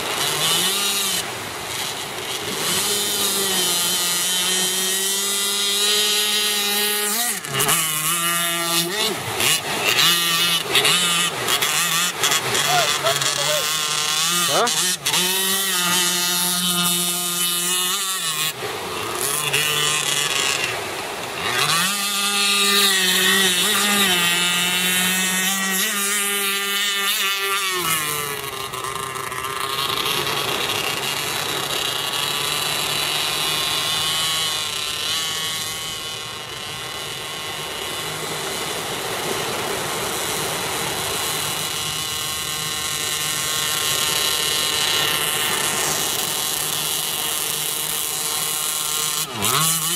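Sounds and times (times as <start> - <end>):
boat engine buzzing: 0.0 - 49.9.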